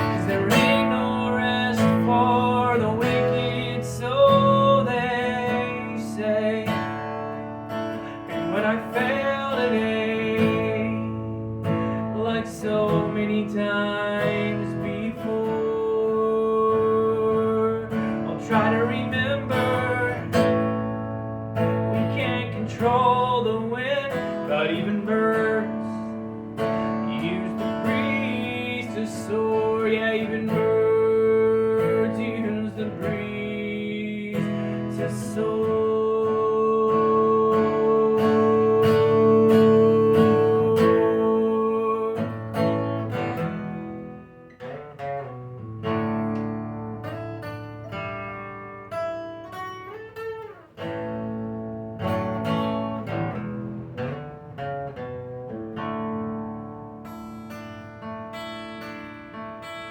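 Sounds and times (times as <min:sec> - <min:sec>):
acoustic guitar instrumental music: 0:00.0 - 0:59.9.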